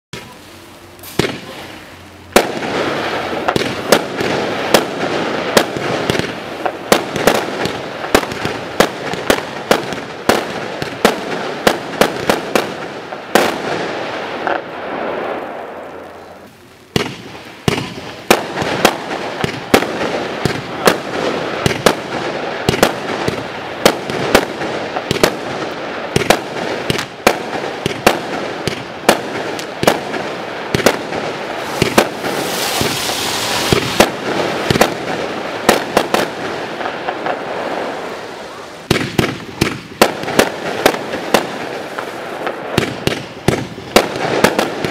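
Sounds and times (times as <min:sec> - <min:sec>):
firework bangs: 0:00.2 - 0:44.9
firework crackle: 0:00.2 - 0:44.9.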